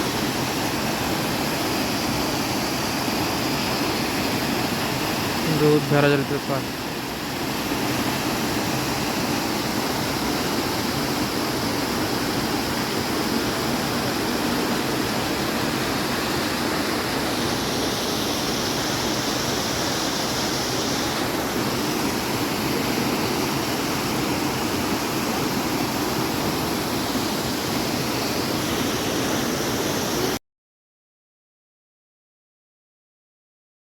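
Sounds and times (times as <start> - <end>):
rush of falling water: 0.0 - 30.4.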